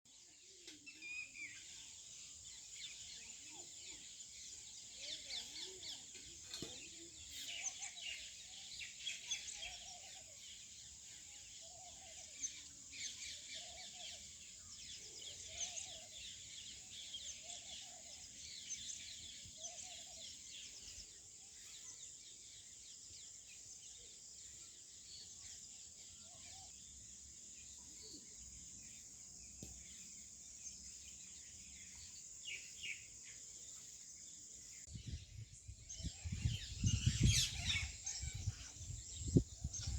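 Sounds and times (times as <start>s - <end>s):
small birds chirping: 0.1s - 39.9s.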